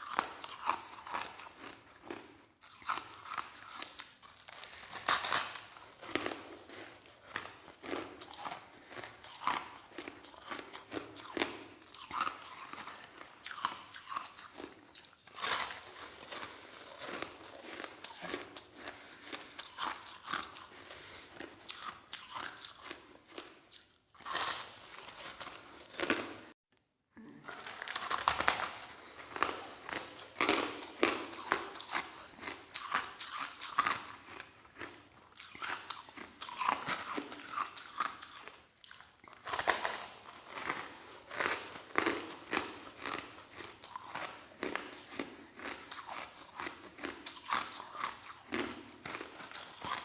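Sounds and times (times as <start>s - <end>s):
person chewing crushed ice: 0.0s - 26.6s, 27.2s - 50.0s.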